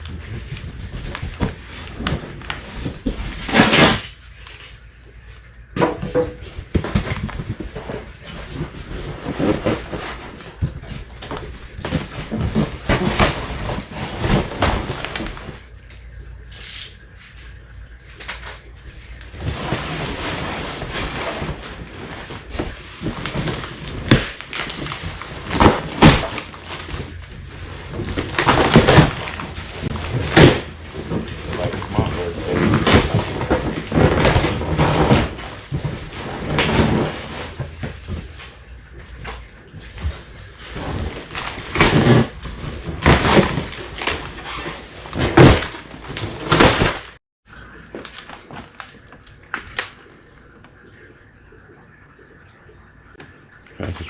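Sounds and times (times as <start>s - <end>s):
packaging rustling and crinkling: 0.0s - 5.4s, 6.0s - 15.8s, 18.2s - 47.2s, 47.8s - 50.0s.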